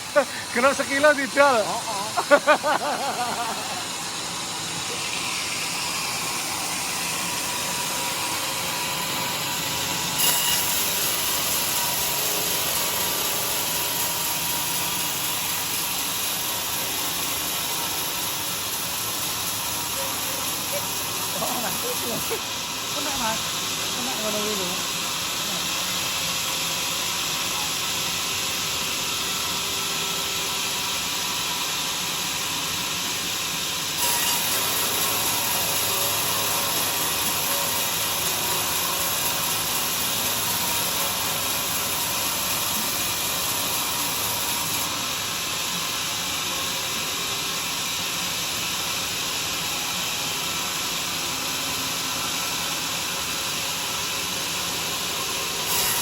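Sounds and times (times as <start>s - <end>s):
sawmill sawing wood: 0.0s - 56.0s.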